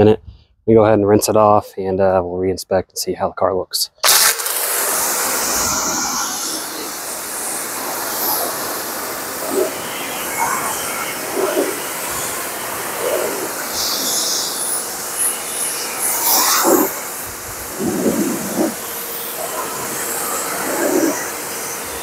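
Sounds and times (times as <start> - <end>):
pressure washer spraying: 4.0 - 22.0.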